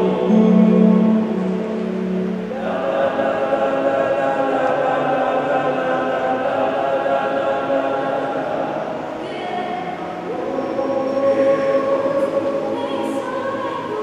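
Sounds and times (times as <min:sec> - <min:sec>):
male choir singing chords: 0:00.0 - 0:14.0.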